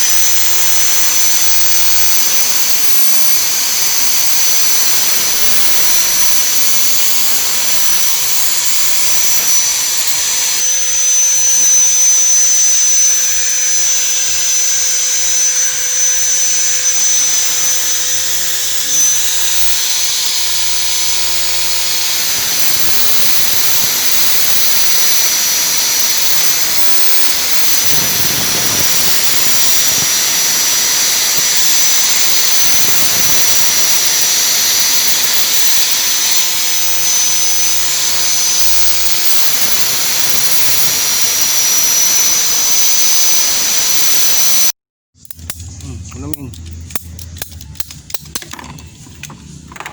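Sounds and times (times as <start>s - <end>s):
angle grinder on metal: 0.0s - 44.7s.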